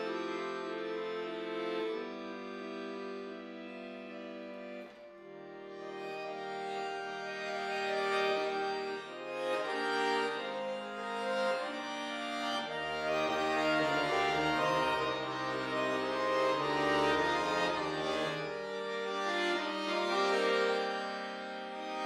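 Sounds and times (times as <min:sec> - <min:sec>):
accordion playing classical music: 0:00.0 - 0:22.0.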